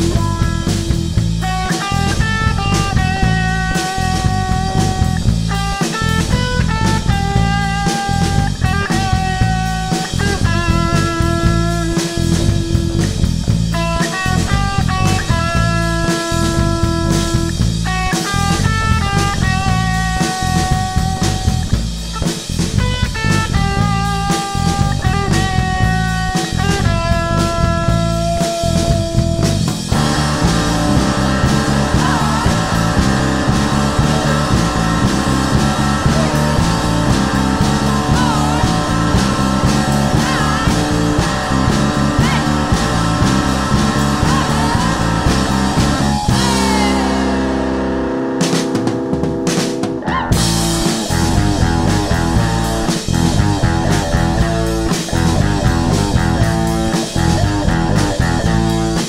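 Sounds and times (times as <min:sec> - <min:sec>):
rock music with guitar: 0:00.0 - 0:59.0.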